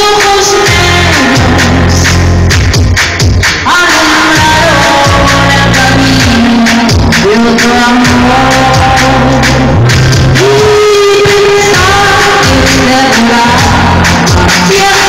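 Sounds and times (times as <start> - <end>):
woman singing: 0.0 - 2.3, 3.6 - 15.0
keyboards: 0.0 - 15.0
steady drum beat: 0.1 - 15.0.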